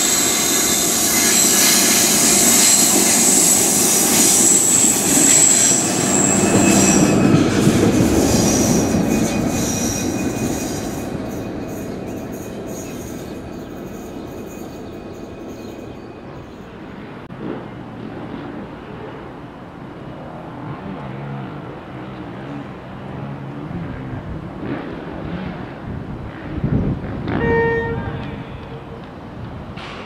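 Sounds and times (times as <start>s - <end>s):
train rumbling on rails: 0.0s - 30.0s.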